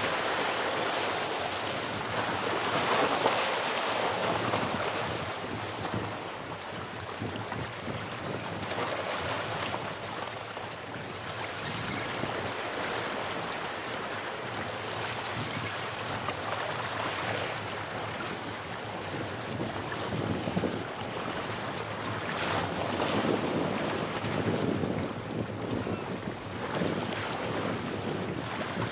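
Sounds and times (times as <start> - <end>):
waves washing over rocks: 0.0 - 10.4, 12.1 - 28.9
wind buffeting microphone: 0.0 - 28.9.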